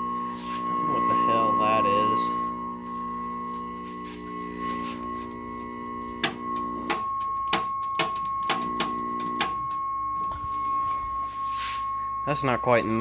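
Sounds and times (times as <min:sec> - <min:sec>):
held chord of steady tones: 0:00.0 - 0:13.0
steady high-pitched tone: 0:00.0 - 0:13.0.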